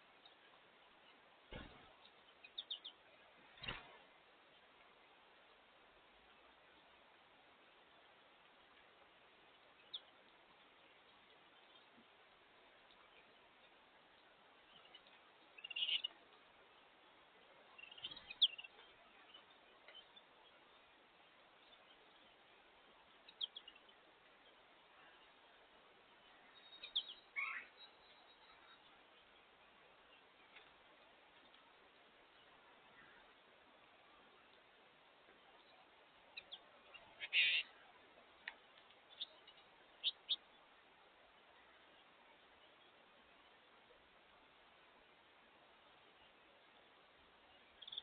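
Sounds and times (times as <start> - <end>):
faint steady hiss: 0.0 - 48.0
songbirds chirping: 0.0 - 48.0.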